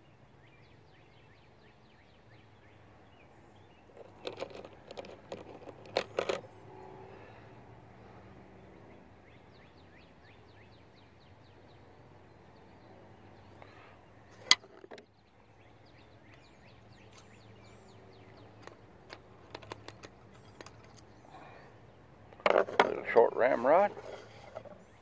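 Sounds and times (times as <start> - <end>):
bird song: 0.0 - 25.0
outdoor background noise: 0.0 - 25.0.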